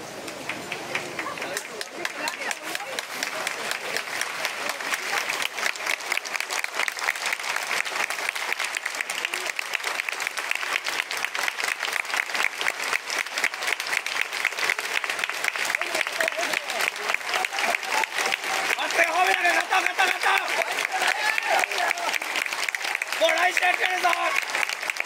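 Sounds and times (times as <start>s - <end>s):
crowd clapping: 0.0s - 25.0s
voices in crowd: 0.0s - 25.0s.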